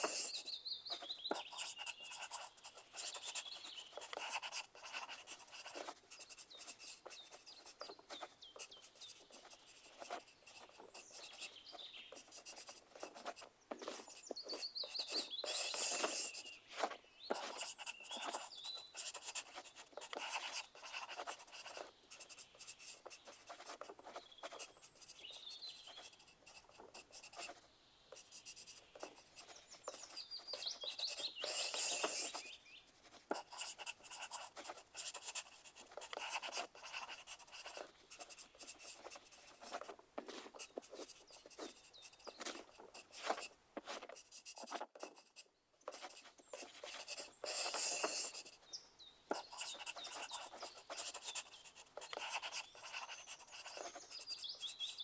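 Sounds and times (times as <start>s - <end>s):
pencil scratching on paper: 0.0s - 48.6s, 49.3s - 55.0s.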